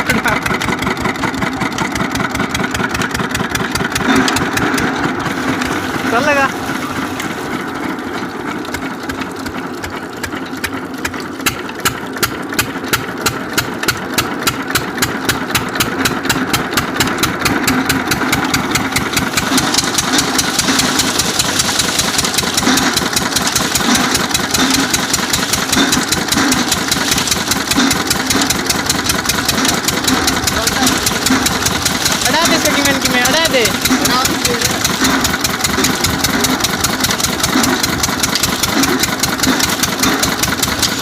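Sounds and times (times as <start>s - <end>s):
diesel water pump engine running: 0.0s - 41.0s.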